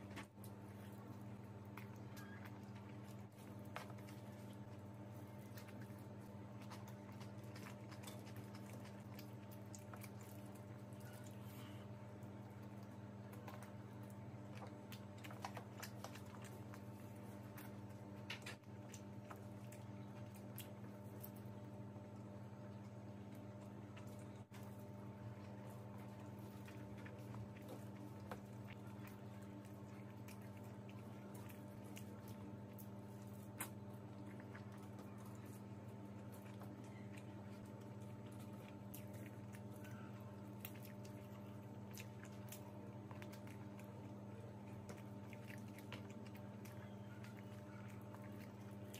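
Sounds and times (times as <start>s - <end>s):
chewing: 0.0s - 48.9s
fingers squishing rice: 0.0s - 48.9s
steady low hum: 0.0s - 48.9s.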